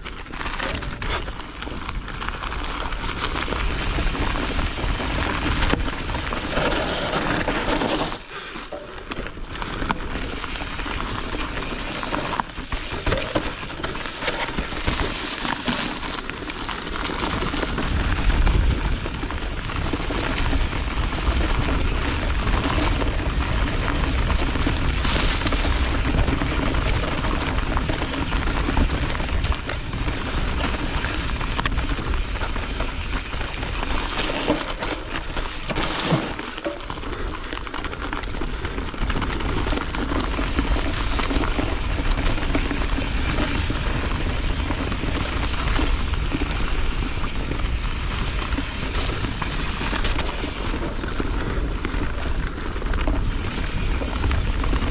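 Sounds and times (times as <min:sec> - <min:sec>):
bike chain and frame rattling: 0:00.0 - 0:54.9
bike tyres rolling over leaves: 0:00.0 - 0:54.9
wind rumbling on microphone: 0:00.0 - 0:54.9.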